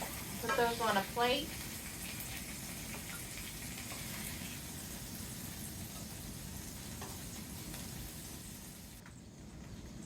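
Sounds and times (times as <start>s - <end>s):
skillet sizzling: 0.0s - 10.0s.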